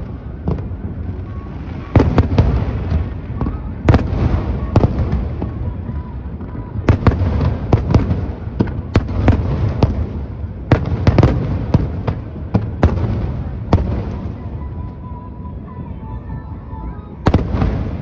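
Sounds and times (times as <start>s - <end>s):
fireworks bangs: 0.0s - 15.1s, 17.1s - 18.0s
low continuous rumble: 0.0s - 18.0s.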